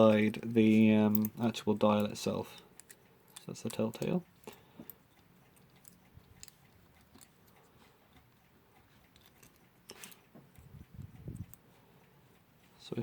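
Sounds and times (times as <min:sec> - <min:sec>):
small clock parts clicking: 0:00.0 - 0:13.0.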